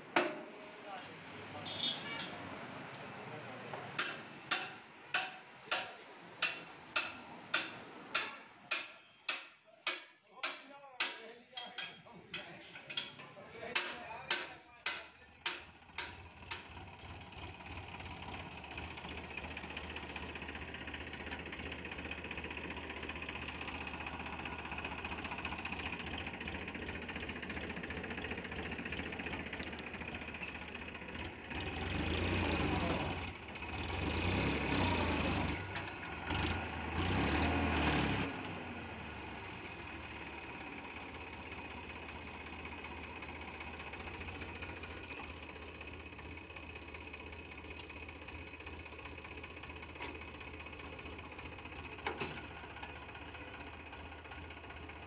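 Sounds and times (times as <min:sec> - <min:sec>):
tractor diesel engine idling: 0:03.0 - 0:11.2, 0:12.6 - 0:55.0.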